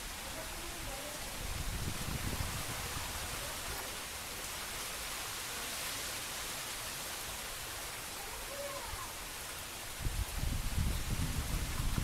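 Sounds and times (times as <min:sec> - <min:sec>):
rain falling on tall grass: 0:00.0 - 0:12.0.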